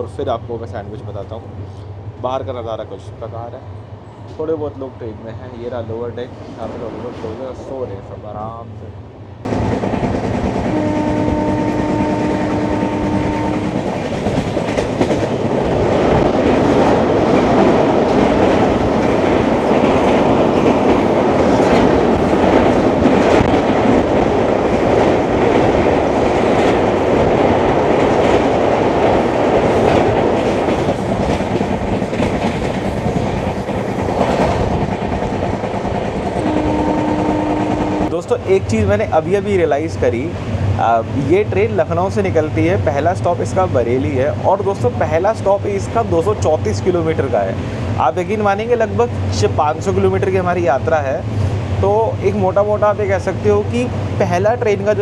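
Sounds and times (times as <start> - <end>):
train running noise: 0.0 - 55.0.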